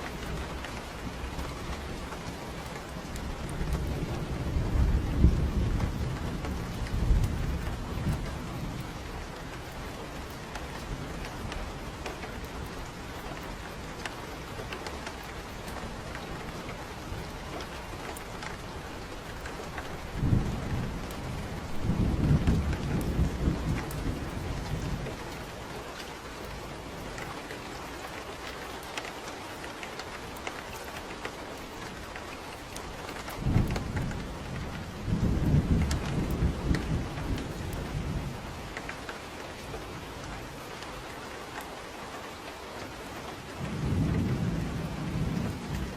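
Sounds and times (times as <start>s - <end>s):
thunder clap and rumble: 0.0s - 41.9s, 43.0s - 45.9s
steady rain falling: 0.0s - 45.9s.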